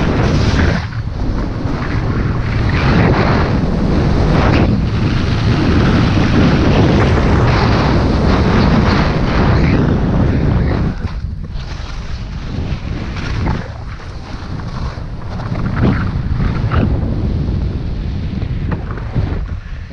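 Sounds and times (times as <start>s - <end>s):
skis sliding over packed snow: 0.0s - 16.8s
wind buffeting microphone: 0.0s - 19.9s.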